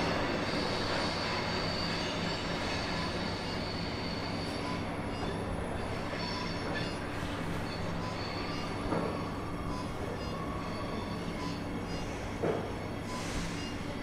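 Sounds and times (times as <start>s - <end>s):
train wheels squealing: 0.0s - 14.0s.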